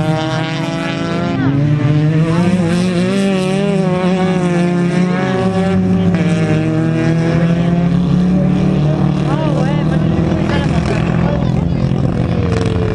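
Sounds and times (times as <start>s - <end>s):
racing car engines at high revs: 0.0s - 12.9s.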